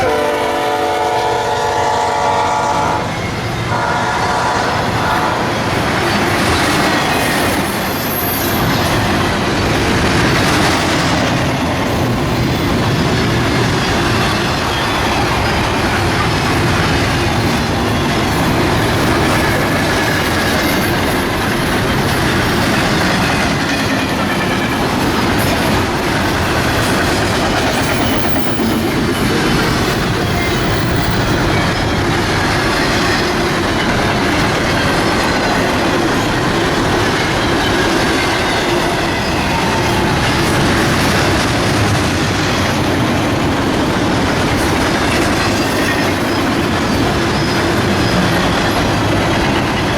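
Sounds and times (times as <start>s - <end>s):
freight train wheels on rail: 0.0s - 49.9s.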